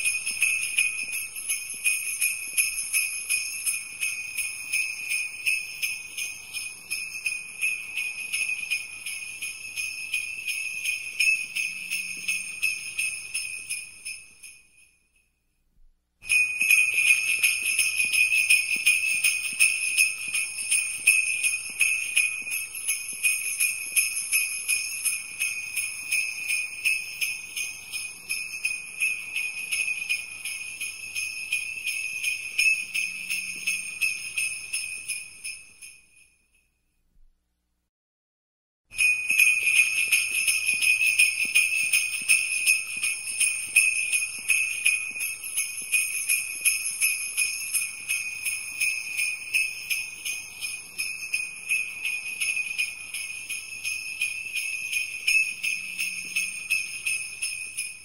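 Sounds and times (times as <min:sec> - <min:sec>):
sleigh bells jingling: 0:00.0 - 0:15.2, 0:16.2 - 0:36.6, 0:38.9 - 0:58.0.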